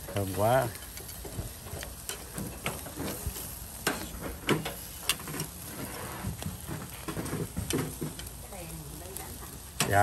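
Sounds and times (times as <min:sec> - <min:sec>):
meat sizzling on grill: 0:00.0 - 0:10.0.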